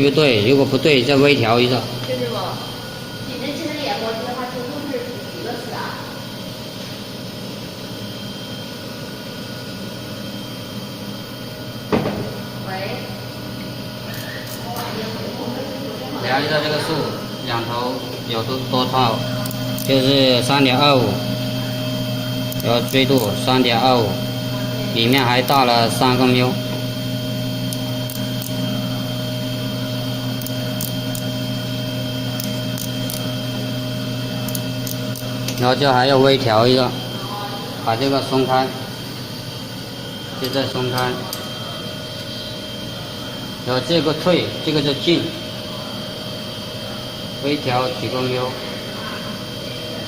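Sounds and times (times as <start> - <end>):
faint spindle motor whine: 0.0 - 50.0
grinder machine hum: 0.0 - 50.0.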